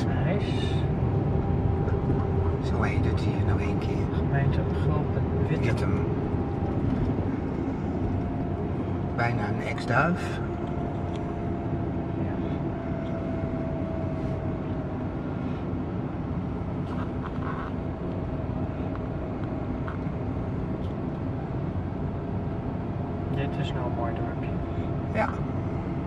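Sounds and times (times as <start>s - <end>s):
car engine and tyre noise: 0.0s - 26.0s
faint steady whine: 0.0s - 26.0s.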